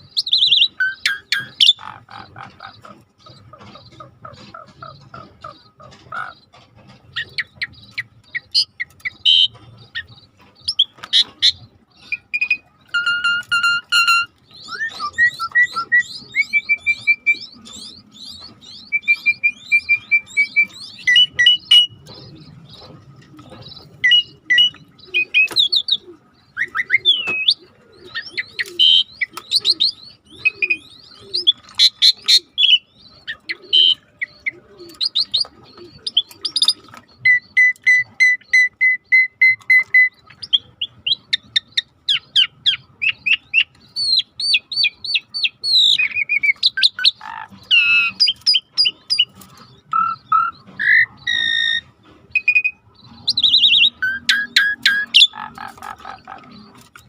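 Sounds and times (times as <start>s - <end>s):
wild birds chirping and singing: 0.0s - 57.0s.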